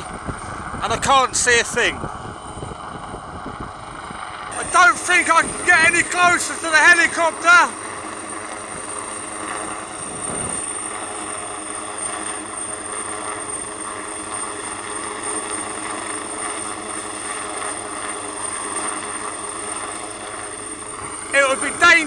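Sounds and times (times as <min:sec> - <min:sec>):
helicopter hovering: 0:00.0 - 0:22.0.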